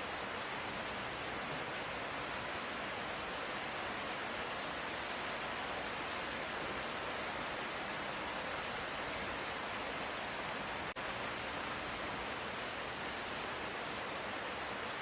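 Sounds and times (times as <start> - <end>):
light rain hiss: 0.0 - 15.0.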